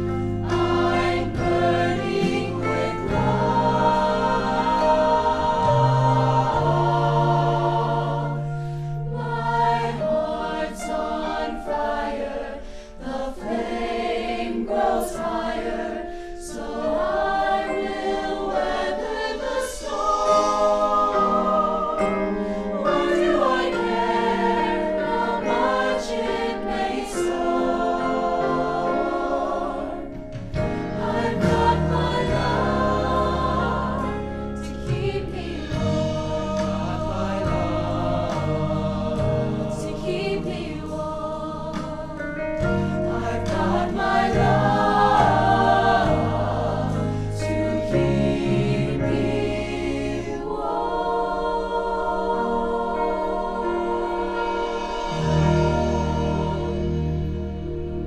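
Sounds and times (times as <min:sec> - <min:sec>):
choir singing in harmony: 0:00.0 - 0:58.0.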